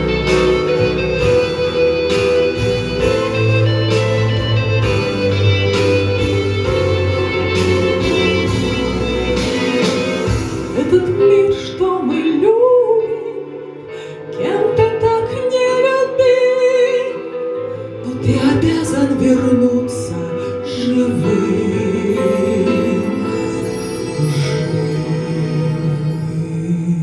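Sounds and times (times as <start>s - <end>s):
musical backing: 0.0s - 27.0s.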